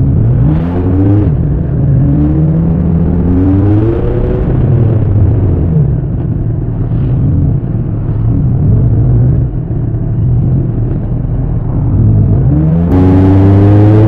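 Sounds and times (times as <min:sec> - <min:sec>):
motorcycle exhaust rumble: 0:00.0 - 0:14.0.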